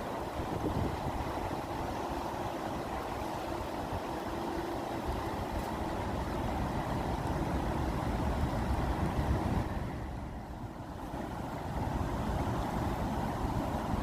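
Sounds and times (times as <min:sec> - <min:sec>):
rushing water with low rumble: 0:00.0 - 0:14.0.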